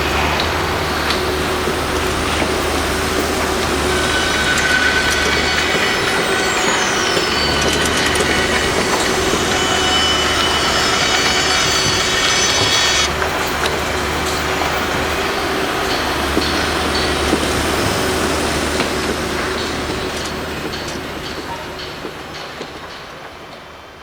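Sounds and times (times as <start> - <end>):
metallic screeching and clatter: 0.0 - 22.5
falling machine whine: 0.0 - 22.7
construction machinery noise: 0.0 - 24.0.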